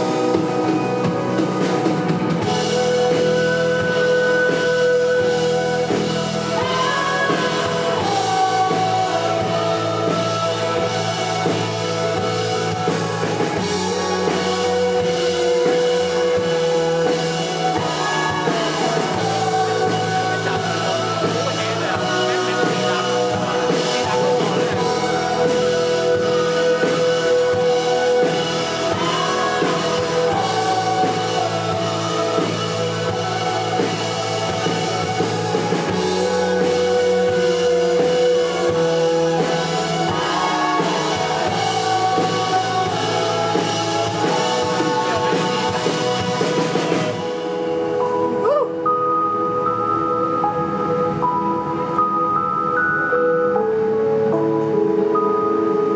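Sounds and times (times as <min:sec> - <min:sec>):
person singing: 0:00.0 - 0:49.1
live electronic pop band: 0:00.0 - 0:55.9.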